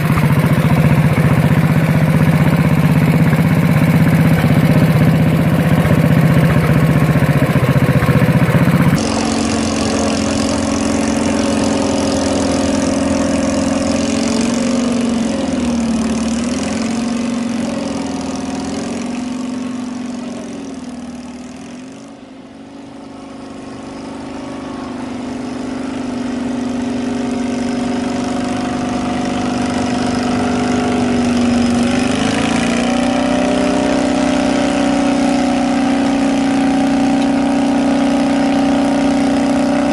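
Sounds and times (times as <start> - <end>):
tractor engine running: 0.0 - 39.9
wobbling engine sound: 0.0 - 39.9.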